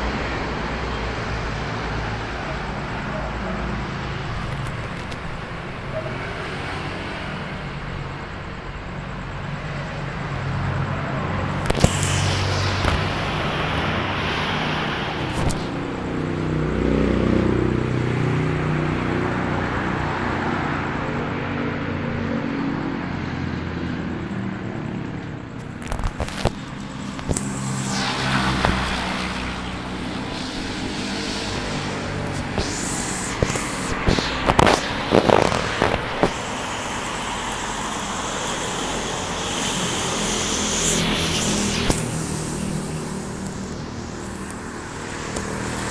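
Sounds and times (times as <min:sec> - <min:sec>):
wind and rain on microphone: 0:00.0 - 0:45.9.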